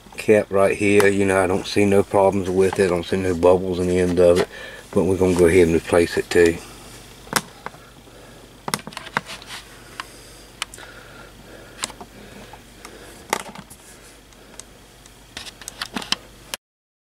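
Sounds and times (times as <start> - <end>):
faint low hum: 0.0 - 16.3.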